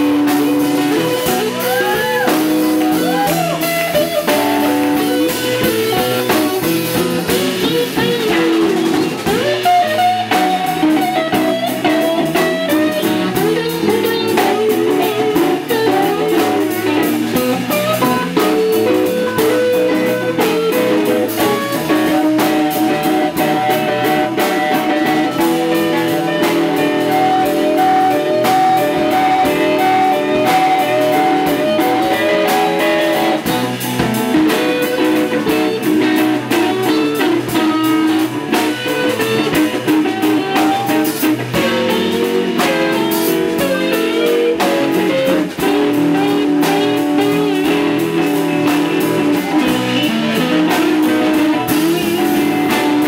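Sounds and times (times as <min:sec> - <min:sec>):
drums and cymbals: 0:00.0 - 0:53.0
lead electric guitar: 0:00.0 - 0:53.0
rhythm guitar: 0:00.0 - 0:53.0.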